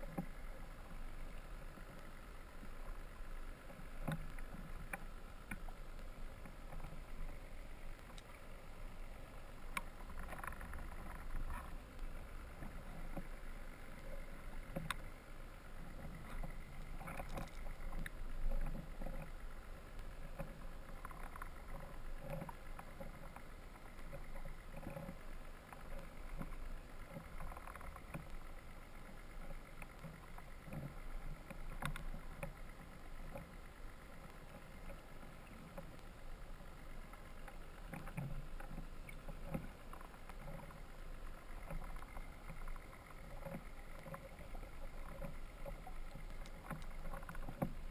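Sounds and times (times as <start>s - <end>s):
faint hum: 0.0s - 47.9s
muffled underwater rumble: 0.0s - 47.9s.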